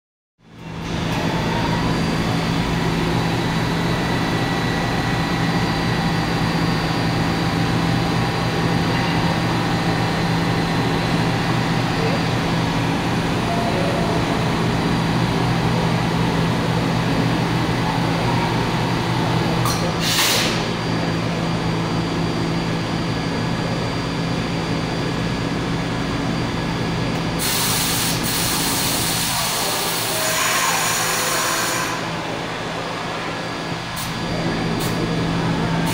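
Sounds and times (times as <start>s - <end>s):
subway train idling hum: 0.4s - 35.9s.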